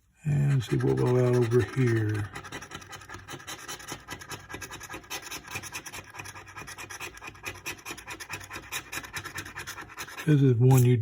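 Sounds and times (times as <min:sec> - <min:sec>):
scratching lottery ticket coating: 0:00.4 - 0:10.9.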